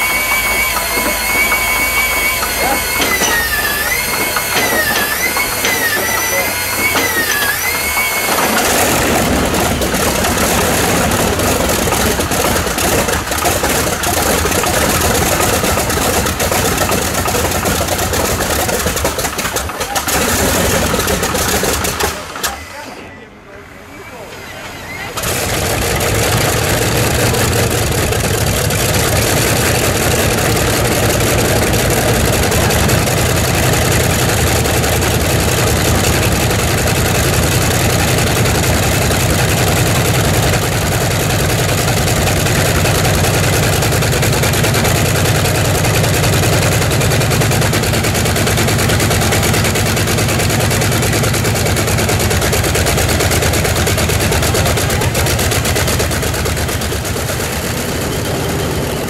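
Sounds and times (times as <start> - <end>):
radial aircraft engine running: 0.0 - 22.6, 23.8 - 59.0.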